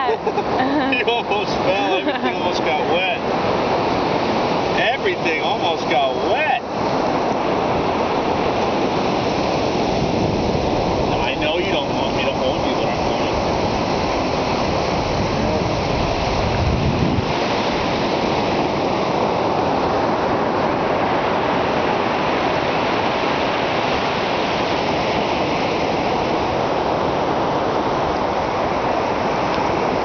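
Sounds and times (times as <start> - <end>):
surf washing up beach: 0.0 - 30.0.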